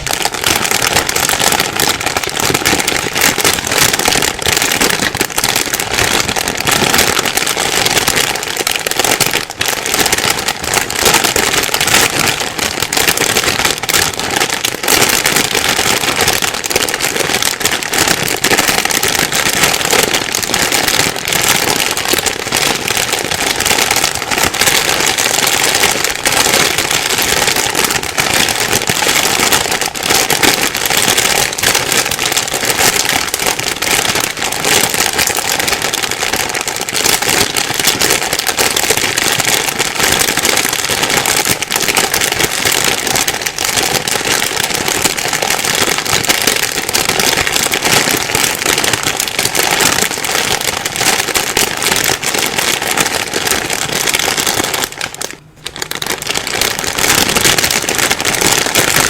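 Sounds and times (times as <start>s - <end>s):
plastic bag crinkling: 0.0s - 59.0s.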